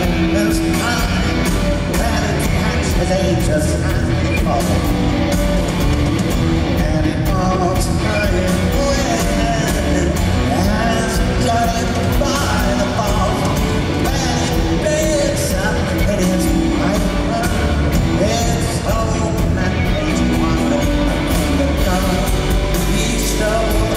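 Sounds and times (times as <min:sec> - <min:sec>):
lead vocalist singing: 0:00.0 - 0:05.0, 0:06.6 - 0:23.9
live rock band playing: 0:00.0 - 0:23.9.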